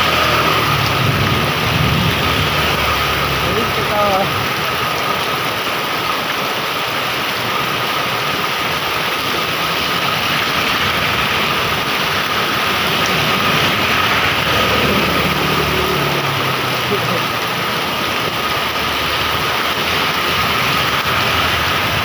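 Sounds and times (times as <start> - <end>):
low engine hum: 0.0 - 5.6, 9.2 - 22.0
heavy rain pouring: 0.0 - 22.0.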